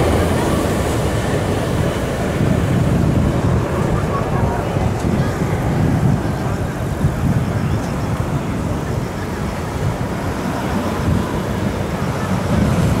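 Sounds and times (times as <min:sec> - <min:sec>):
train rumbling over bridge: 0:00.0 - 0:13.0
wind buffeting microphone: 0:00.0 - 0:13.0.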